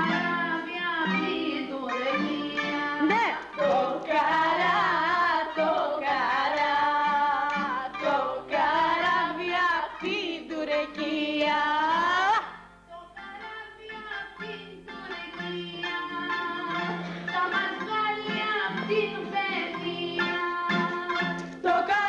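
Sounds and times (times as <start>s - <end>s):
plucked strings: 0.0s - 12.6s, 13.2s - 22.0s
person singing: 0.0s - 22.0s.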